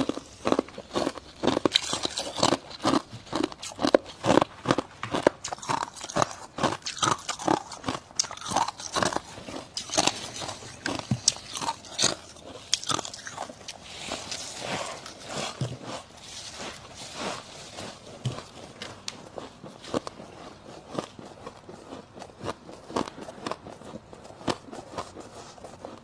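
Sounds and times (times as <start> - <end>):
frost being bitten and chewed: 0.0 - 26.0.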